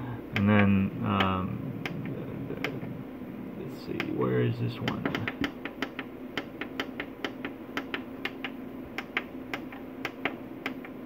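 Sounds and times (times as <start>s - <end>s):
inverter humming: 0.0s - 11.0s.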